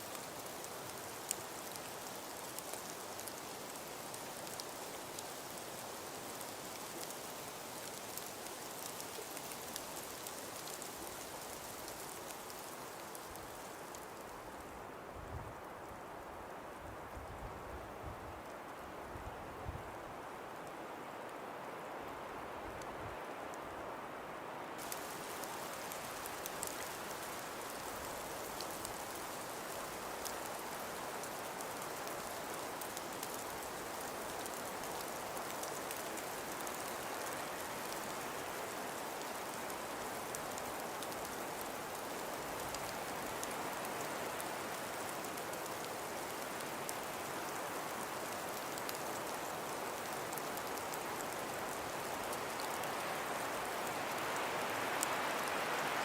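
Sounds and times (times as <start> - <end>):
faint ticks of snowflakes: 0.0 - 14.8, 24.7 - 56.0
hiss of wind-driven snowfall: 0.0 - 56.0.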